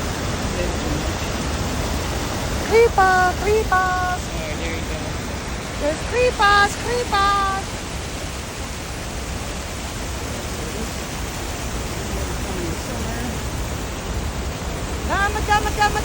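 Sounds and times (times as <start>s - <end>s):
water rushing over a dam: 0.0s - 16.0s.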